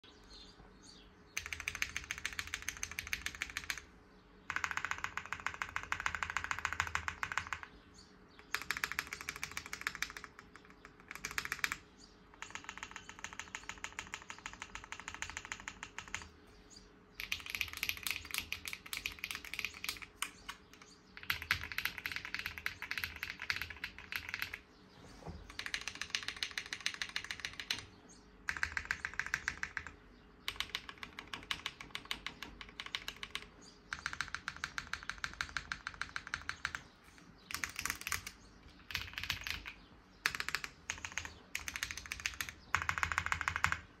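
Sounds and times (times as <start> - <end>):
mechanical keyboard typing: 1.4 - 3.9, 4.5 - 7.7, 8.4 - 16.3, 17.2 - 24.6, 25.5 - 27.9, 28.5 - 44.0.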